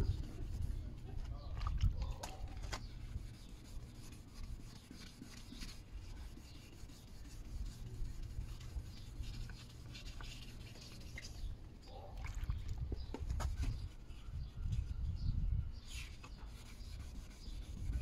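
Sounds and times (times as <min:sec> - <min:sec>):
gloved hand rubbing plastic lens: 0:00.0 - 0:11.6, 0:12.9 - 0:15.2, 0:15.9 - 0:18.0.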